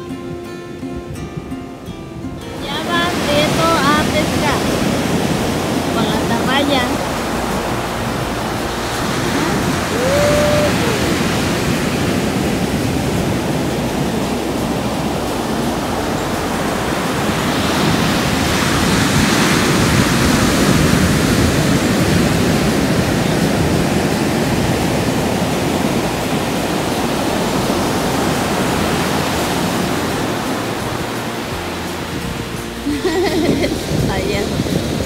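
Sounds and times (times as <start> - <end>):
ocean surf breaking: 0.0 - 1.1, 1.8 - 35.0.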